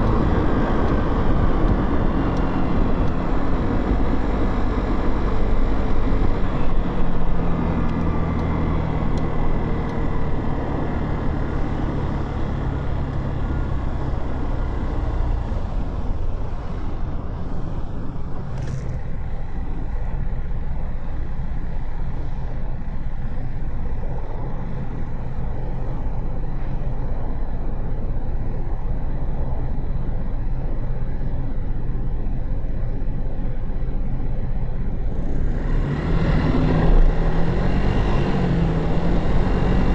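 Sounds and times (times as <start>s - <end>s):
motorcycle engine and road rumble: 0.0s - 39.9s.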